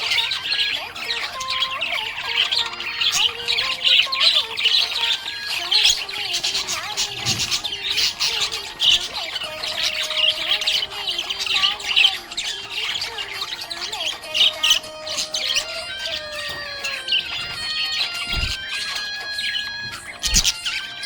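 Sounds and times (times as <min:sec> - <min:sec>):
budgie chirping and squawking: 0:00.0 - 0:21.0.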